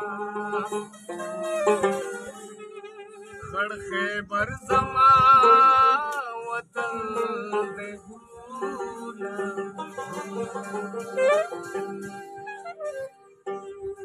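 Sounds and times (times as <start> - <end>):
man singing: 0.0 - 2.3, 3.2 - 12.7
instrumental accompaniment: 0.0 - 14.0.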